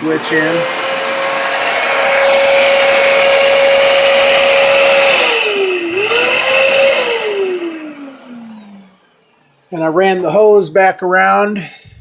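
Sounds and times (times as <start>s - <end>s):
vacuum cleaner whining: 0.0s - 10.3s.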